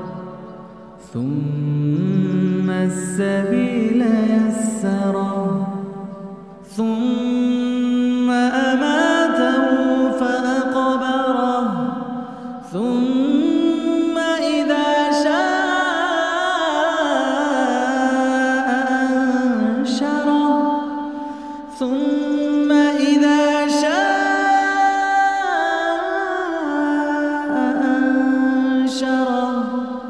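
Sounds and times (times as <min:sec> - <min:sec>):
man chanting melodically: 0:00.0 - 0:30.0.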